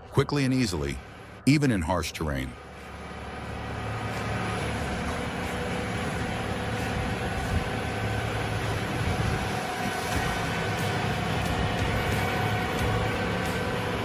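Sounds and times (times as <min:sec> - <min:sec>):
heavy machine engine running: 0:00.0 - 0:01.5, 0:02.4 - 0:14.0.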